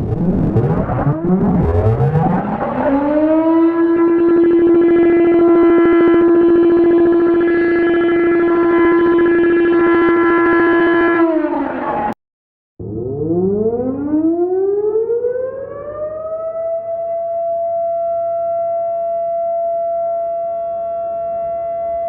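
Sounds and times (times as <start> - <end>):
tornado siren winding up: 0.0 - 12.2, 12.8 - 22.0.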